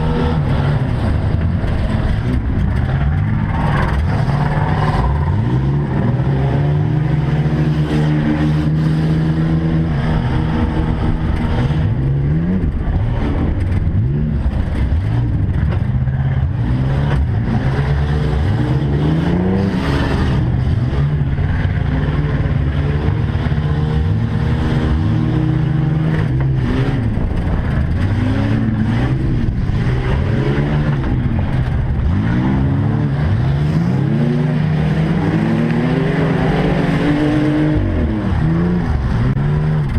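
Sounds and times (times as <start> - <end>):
race truck engines revving: 0.0 - 39.9.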